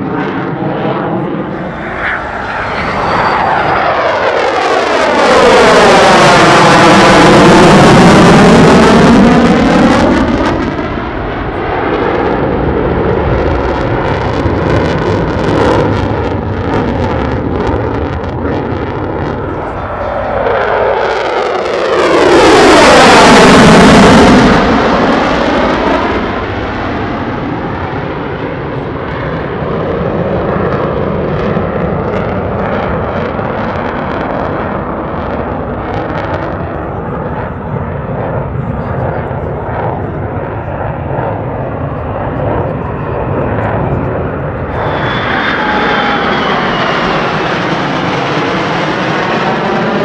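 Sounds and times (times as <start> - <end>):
jet afterburner roaring past: 0.0 - 50.0
jet engine whine: 0.0 - 50.0
steady jet rumble: 0.0 - 50.0.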